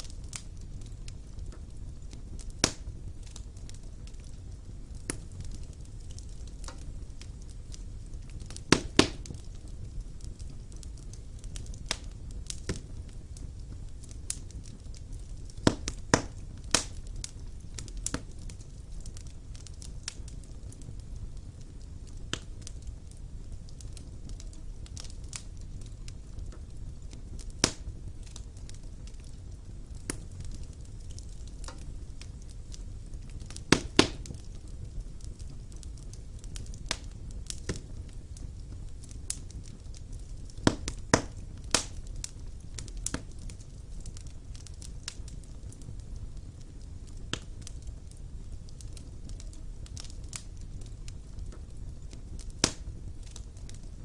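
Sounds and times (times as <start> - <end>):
fire crackling and snapping: 0.0 - 54.0
flames rumbling: 0.0 - 54.0.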